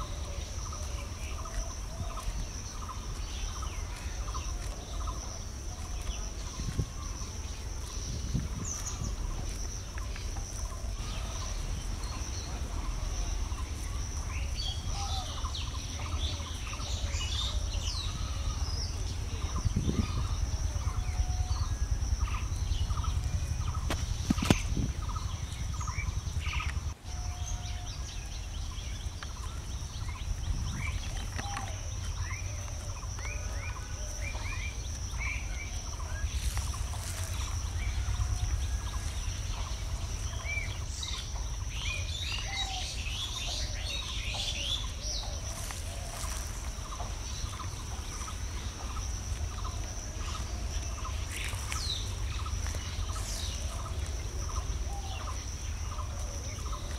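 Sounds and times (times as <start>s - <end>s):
constant low rumble: 0.0s - 56.9s
small birds chirping: 0.0s - 56.9s.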